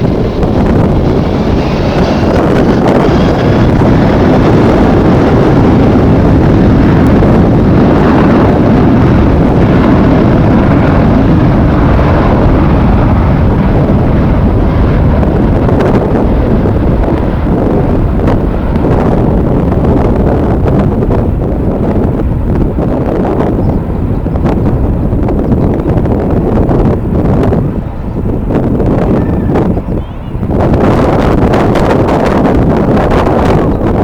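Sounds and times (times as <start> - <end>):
jet airliner engine noise: 0.0 - 34.0
wind buffeting microphone: 0.0 - 34.0.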